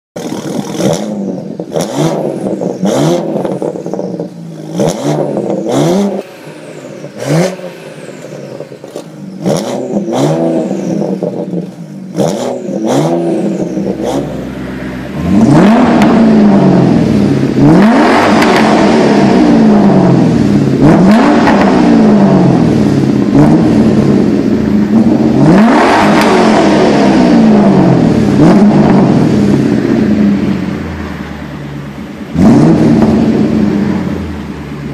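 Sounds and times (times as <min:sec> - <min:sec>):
exhaust cracks: 0:00.2 - 0:31.1
car exhaust revving: 0:00.2 - 0:34.9.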